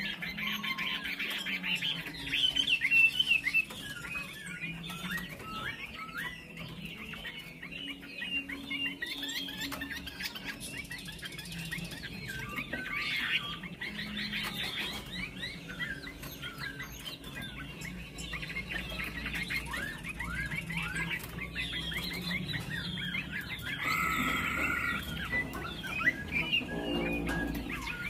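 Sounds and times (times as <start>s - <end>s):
songbird singing whistled notes: 0.0s - 28.0s.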